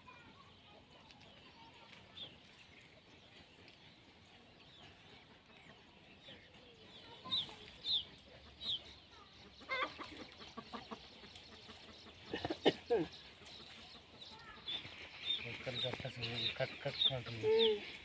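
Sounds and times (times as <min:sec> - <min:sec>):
chickens clucking and calling: 0:02.1 - 0:18.0.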